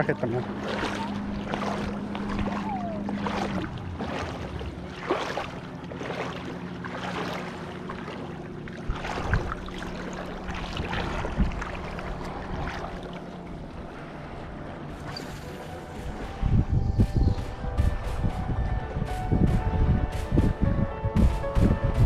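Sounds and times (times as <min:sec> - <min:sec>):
boat motor running: 0:00.0 - 0:22.0
water slapping: 0:00.0 - 0:22.0
wind: 0:00.0 - 0:22.0.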